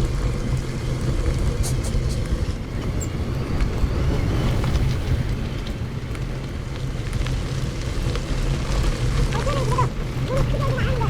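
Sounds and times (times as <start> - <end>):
bike tyres on dirt road: 0.0 - 11.0.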